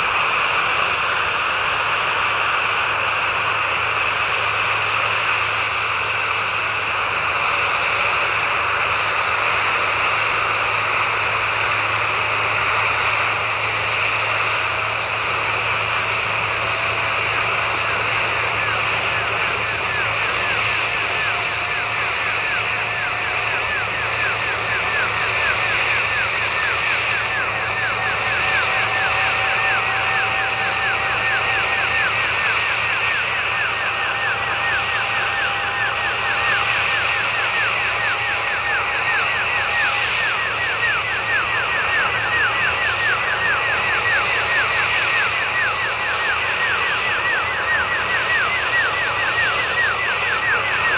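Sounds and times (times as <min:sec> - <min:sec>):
helicopter engines whining: 0:00.0 - 0:50.9
wavering whistle: 0:09.8 - 0:50.9.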